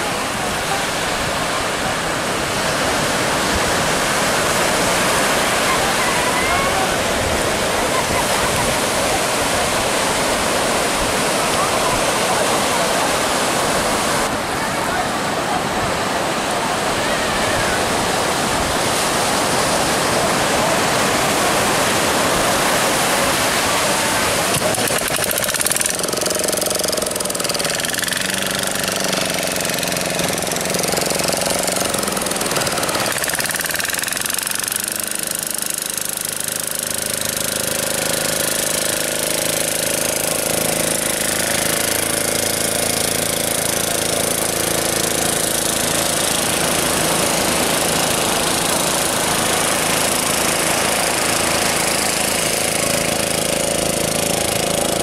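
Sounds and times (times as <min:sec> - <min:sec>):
boat outboard motor: 0:00.0 - 0:55.0
surf washing on beach: 0:00.0 - 0:55.0.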